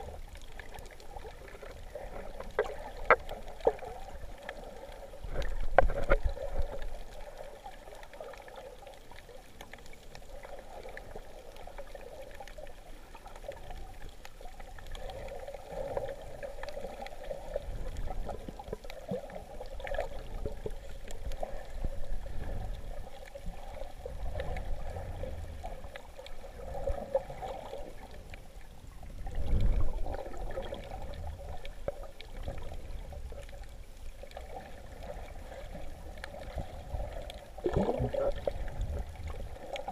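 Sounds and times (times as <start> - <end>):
muffled underwater sloshing hiss: 0.0 - 39.9
rumbling surges of water: 0.0 - 39.9.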